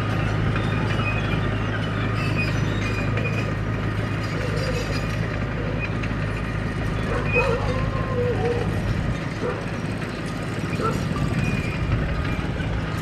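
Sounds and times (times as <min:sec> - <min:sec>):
bulldozer diesel engine drone: 0:00.0 - 0:13.0
steel tracks squeaking and clinking: 0:00.1 - 0:13.0.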